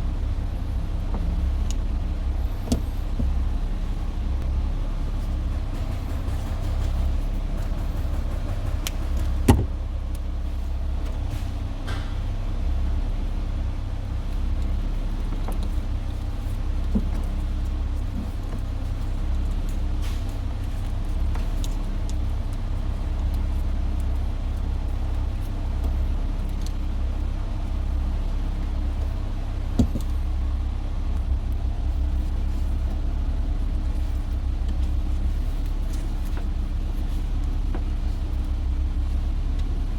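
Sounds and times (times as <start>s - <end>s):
car engine idling: 0.0s - 39.9s
light clicks and knocks: 0.9s - 4.5s, 5.2s - 12.5s, 14.2s - 39.9s.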